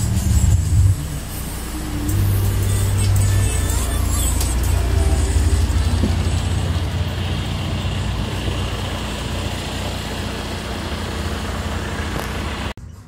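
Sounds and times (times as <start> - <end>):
bus engine humming: 0.0 - 13.0
road traffic noise: 0.0 - 13.0.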